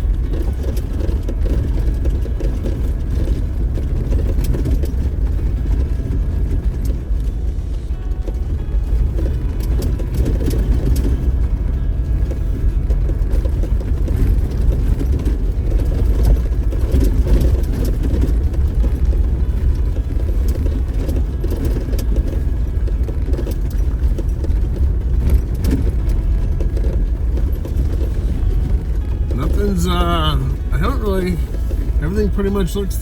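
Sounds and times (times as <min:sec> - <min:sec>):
small knocks and rattles: 0:00.0 - 0:29.9
vehicle engine and tyre rumble: 0:00.0 - 0:33.0.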